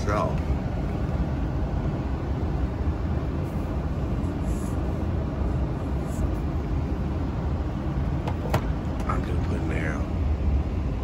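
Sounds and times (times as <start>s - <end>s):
furnace rumbling: 0.0s - 11.0s.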